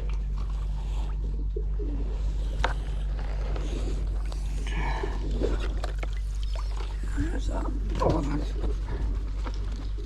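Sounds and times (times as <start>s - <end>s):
low hum: 0.0s - 10.0s
pigeons cooing: 0.6s - 10.0s.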